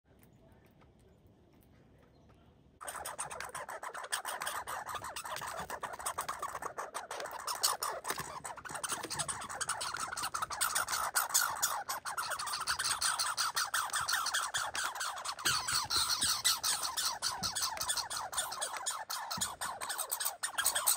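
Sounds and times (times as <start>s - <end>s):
squirrel chattering rattle: 2.8s - 20.9s.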